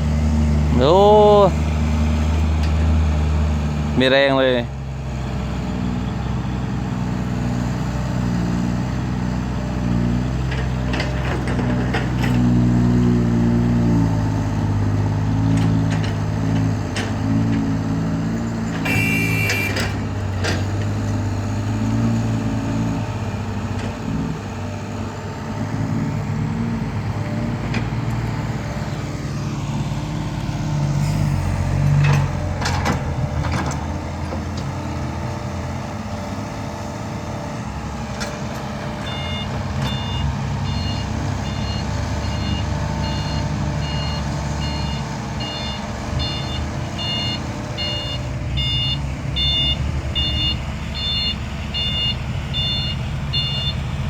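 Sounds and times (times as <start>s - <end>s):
diesel truck engine under load: 0.0s - 54.0s.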